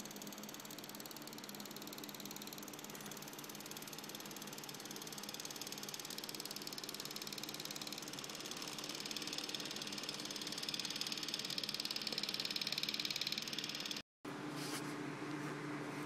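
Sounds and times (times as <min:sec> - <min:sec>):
machine buzzing: 0:00.0 - 0:14.0.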